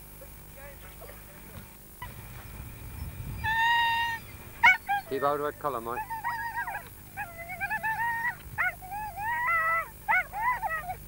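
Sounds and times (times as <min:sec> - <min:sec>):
dog whining: 0:02.0 - 0:11.0
dog yelping: 0:02.0 - 0:11.0.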